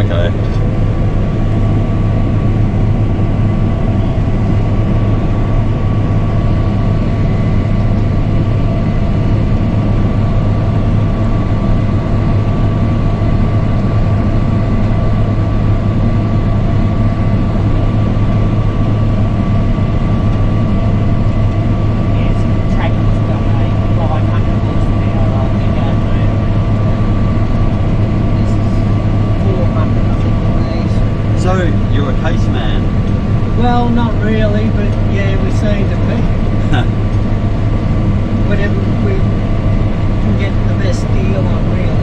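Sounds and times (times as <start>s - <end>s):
combine harvester engine drone: 0.0s - 42.0s
faint steady whine: 0.0s - 42.0s.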